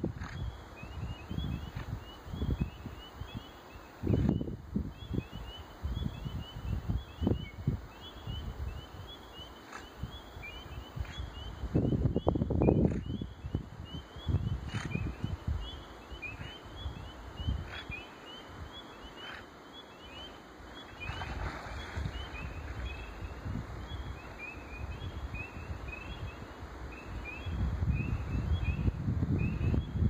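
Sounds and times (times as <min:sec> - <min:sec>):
wind rumbling on microphone: 0:00.0 - 0:19.5, 0:20.6 - 0:30.0
frogs peeping: 0:00.1 - 0:30.0.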